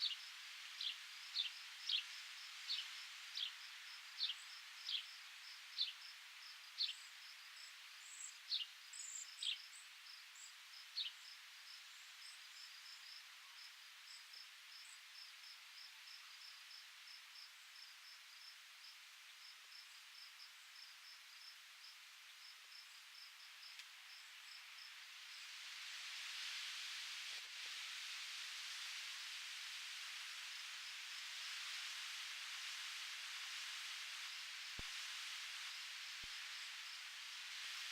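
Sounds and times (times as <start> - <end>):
soft hiss: 0.0 - 37.9
wind: 0.0 - 37.9.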